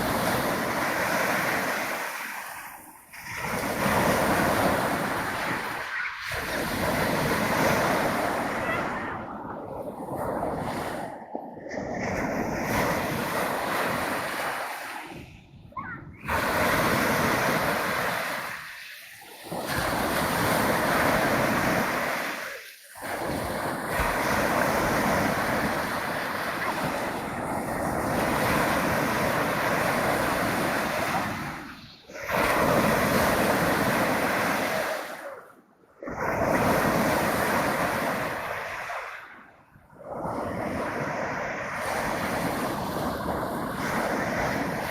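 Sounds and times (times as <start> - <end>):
waves breaking on shore: 0.0 - 44.9.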